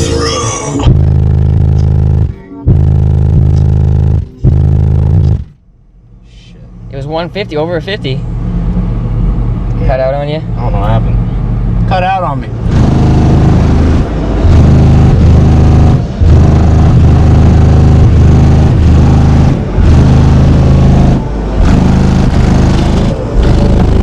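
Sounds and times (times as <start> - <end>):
loud bass-heavy music: 0.0 - 9.7, 10.4 - 24.0.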